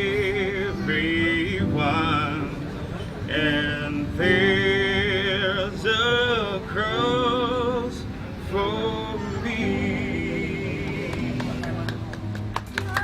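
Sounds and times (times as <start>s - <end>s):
man singing with vibrato: 0.0s - 11.6s.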